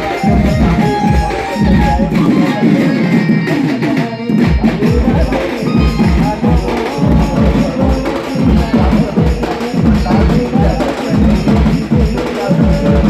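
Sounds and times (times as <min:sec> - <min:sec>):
band music with melody: 0:00.0 - 0:13.0
deep drum beats: 0:00.0 - 0:13.0.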